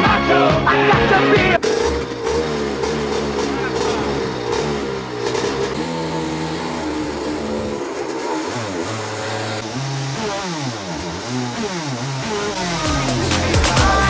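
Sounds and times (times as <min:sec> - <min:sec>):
kart engine revving: 0:00.0 - 0:14.0.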